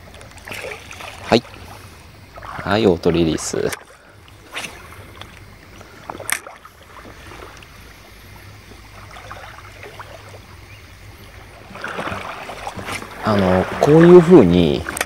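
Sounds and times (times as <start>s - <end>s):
waves lapping on stony shore: 0.0s - 15.0s.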